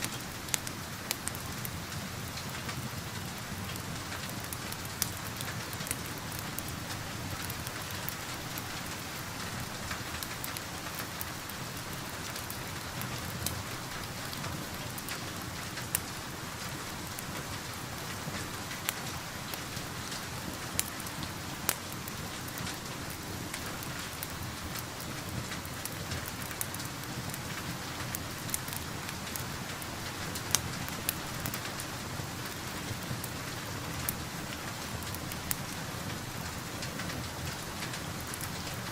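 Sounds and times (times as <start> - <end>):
steady rain hissing: 0.0 - 38.9
wood fire popping and crackling: 0.0 - 38.9.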